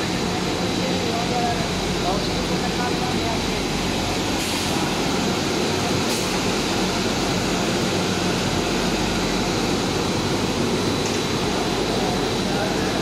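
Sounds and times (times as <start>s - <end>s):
machinery drone of motors and fans: 0.0s - 13.0s.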